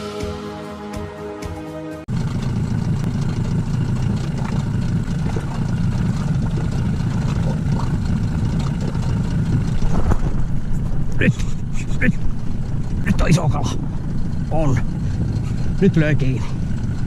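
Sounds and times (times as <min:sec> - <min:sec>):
outboard motor rumbling: 0:02.1 - 0:17.0.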